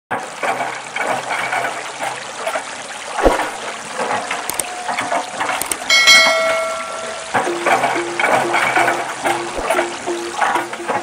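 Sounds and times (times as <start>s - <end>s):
water splashing and trickling: 0.1s - 11.0s.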